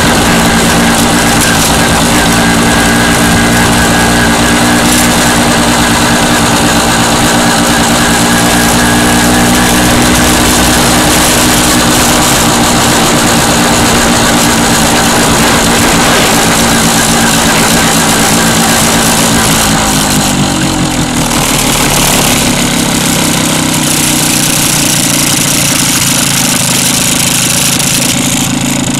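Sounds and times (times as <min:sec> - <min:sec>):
motorcycle engine cruising: 0:00.0 - 0:28.9
wind and road noise: 0:00.0 - 0:28.9.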